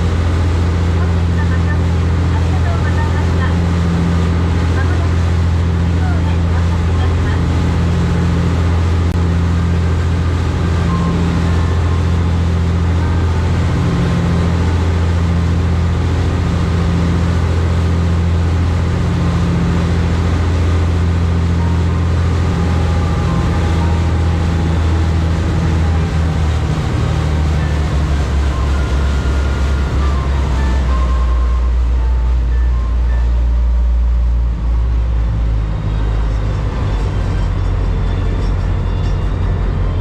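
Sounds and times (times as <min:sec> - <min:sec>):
boat engines droning: 0:00.0 - 0:40.0.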